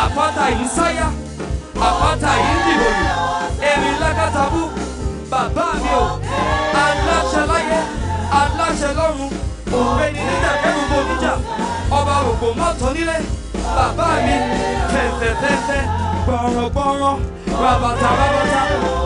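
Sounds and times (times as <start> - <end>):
deep bass line: 0.0 - 19.0
drums: 0.0 - 19.0
gospel singing: 0.0 - 19.0.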